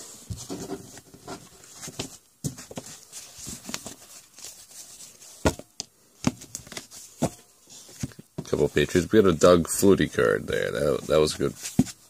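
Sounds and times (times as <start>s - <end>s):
cardboard cards rustling: 0.3s - 12.0s.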